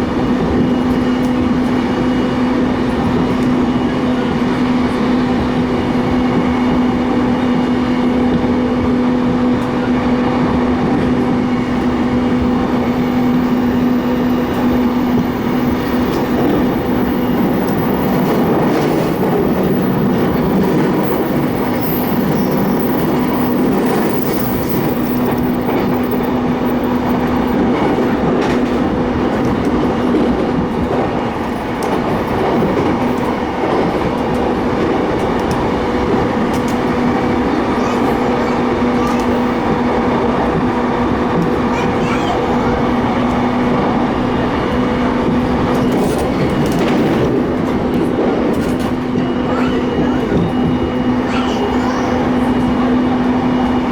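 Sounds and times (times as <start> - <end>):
train rolling noise: 0.0 - 53.9.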